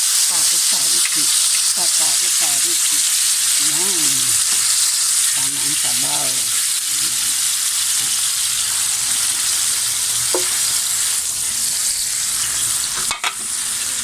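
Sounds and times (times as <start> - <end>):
fish sizzling in a frying pan: 0.0 - 14.0.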